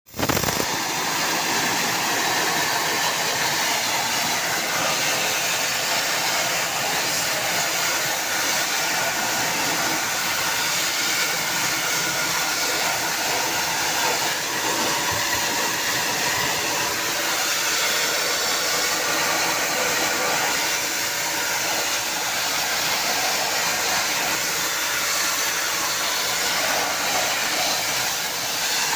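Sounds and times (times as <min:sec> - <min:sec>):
air conditioner blowing air: 0:00.1 - 0:28.9.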